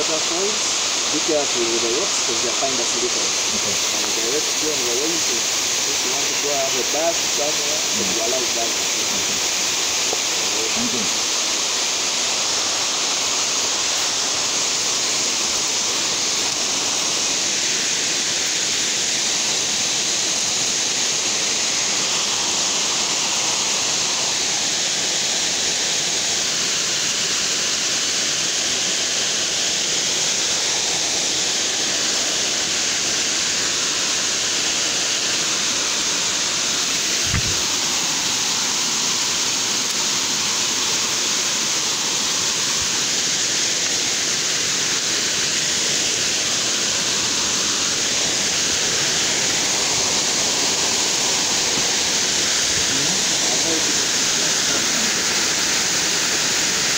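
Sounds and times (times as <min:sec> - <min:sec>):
waterfall roaring: 0:00.0 - 0:56.9.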